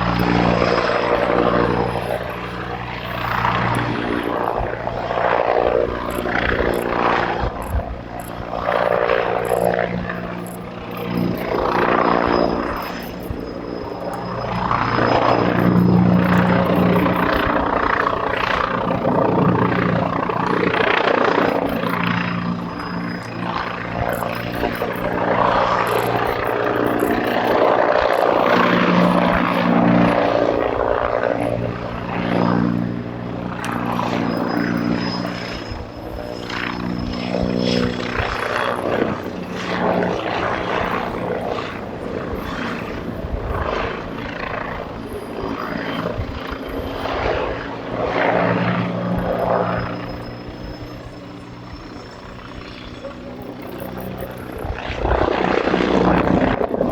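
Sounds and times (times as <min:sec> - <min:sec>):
helicopter rotor and engine hum: 0:00.0 - 0:56.9.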